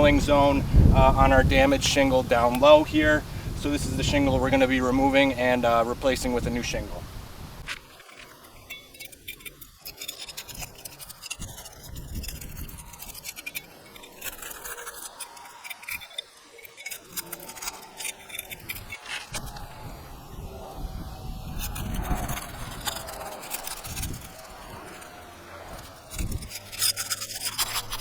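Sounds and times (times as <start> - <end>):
shingles scraping and crackling: 0.0 - 7.0, 7.6 - 28.0.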